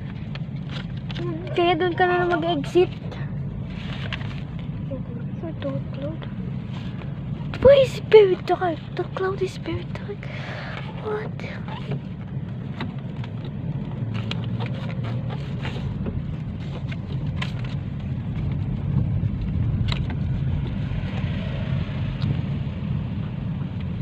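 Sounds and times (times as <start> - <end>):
car cabin road rumble: 0.0 - 24.0.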